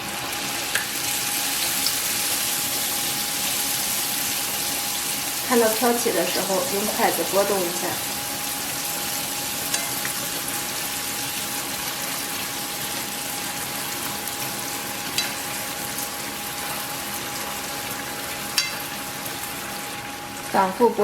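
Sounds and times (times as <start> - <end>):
dough sizzling in hot oil: 0.0 - 21.0.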